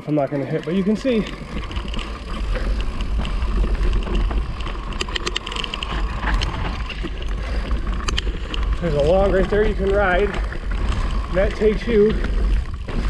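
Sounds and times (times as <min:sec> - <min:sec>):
bike rattling clicks: 0:00.0 - 0:13.0
wind and tyre rumble: 0:00.0 - 0:13.0.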